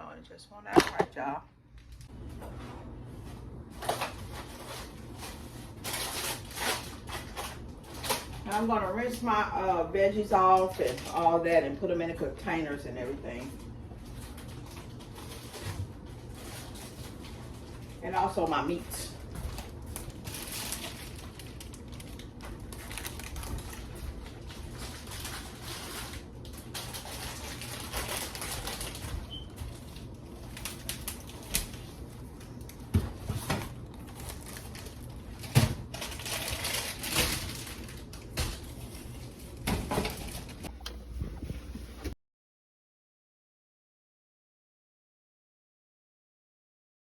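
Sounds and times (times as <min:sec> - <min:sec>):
low steady hum: 0:00.0 - 0:42.2
groceries and containers handled: 0:00.6 - 0:42.2.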